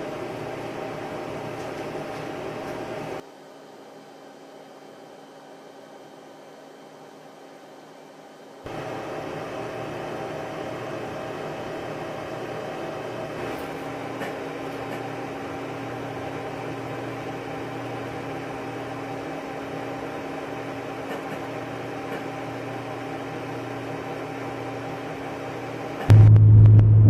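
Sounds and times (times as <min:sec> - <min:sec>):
machine hum with fan hiss: 0:00.0 - 0:27.0.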